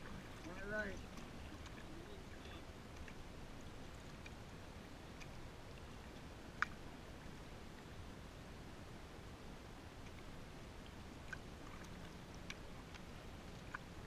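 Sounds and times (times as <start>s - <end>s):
small water ticks: 0.0s - 8.1s, 8.8s - 14.0s
faint low rumble: 0.0s - 14.0s.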